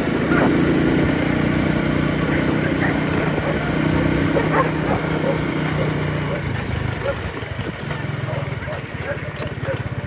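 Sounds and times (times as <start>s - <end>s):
motorbike engine running: 0.0s - 10.0s
dogs barking: 0.2s - 0.8s, 2.2s - 10.0s.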